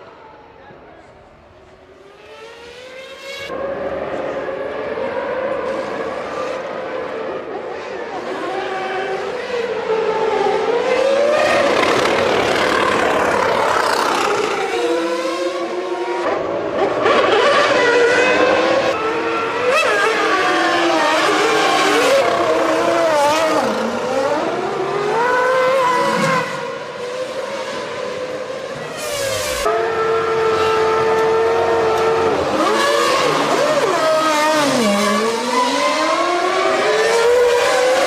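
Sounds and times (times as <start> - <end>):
racing car engines: 0.0 - 38.0.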